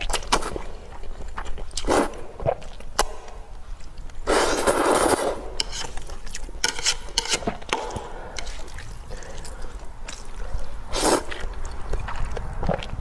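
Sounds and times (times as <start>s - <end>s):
slurping noodle soup: 0.0s - 2.8s, 4.1s - 13.0s.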